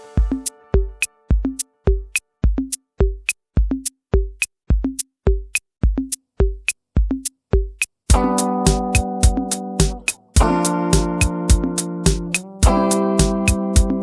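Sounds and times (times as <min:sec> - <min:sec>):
electronic drum beat: 0:00.0 - 0:14.0.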